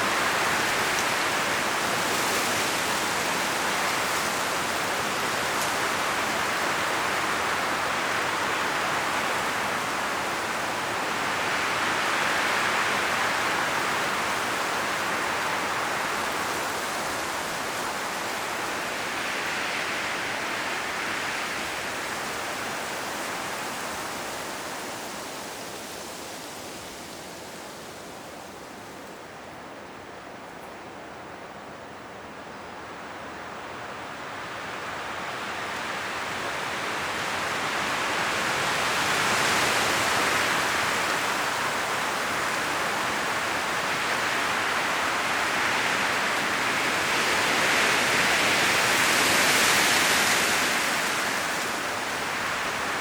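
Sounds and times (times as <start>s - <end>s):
wind rustling tree leaves: 0.0s - 53.0s.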